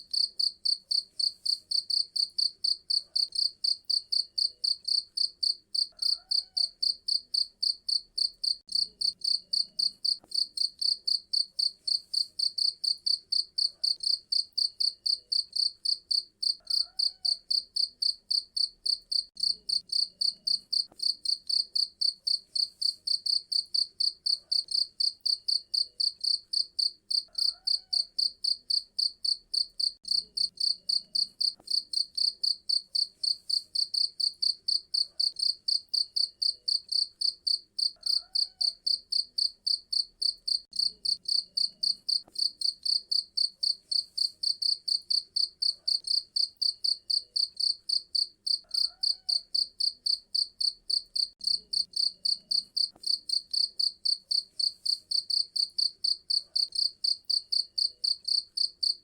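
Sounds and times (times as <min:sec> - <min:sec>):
cricket chirping: 0:00.1 - 0:59.0.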